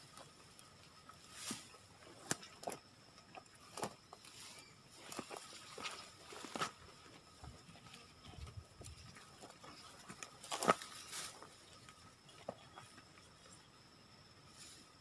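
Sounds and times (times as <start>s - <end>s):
twigs and dry leaves crackling: 0.0s - 13.9s.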